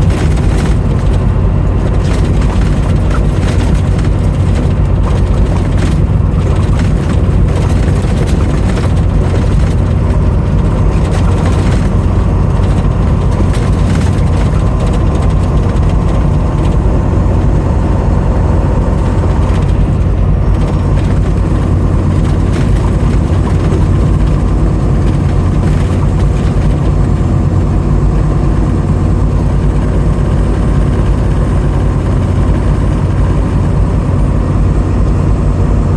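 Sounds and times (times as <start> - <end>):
loud engine rumble: 0.0 - 35.9.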